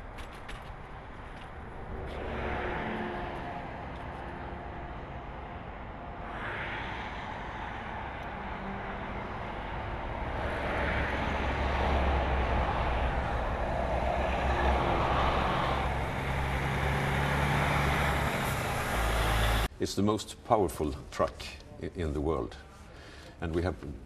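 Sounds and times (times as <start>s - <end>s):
heavy truck driving: 0.0s - 19.7s.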